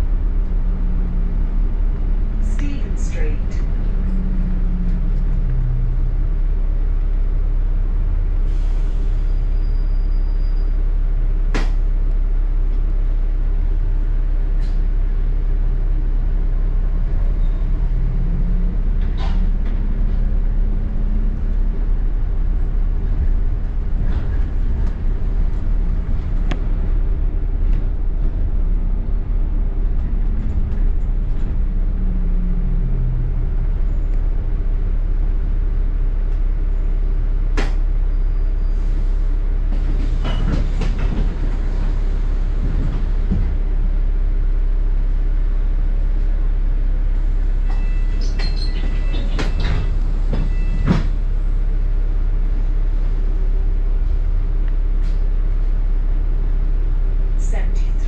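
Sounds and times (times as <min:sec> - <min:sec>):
bus drivetrain rumble: 0:00.0 - 0:58.0.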